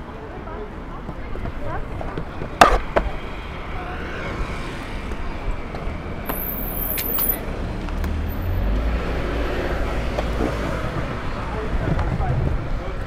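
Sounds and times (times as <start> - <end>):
passing city traffic: 0.0 - 13.0
longboard wheels rolling on asphalt: 0.3 - 13.0.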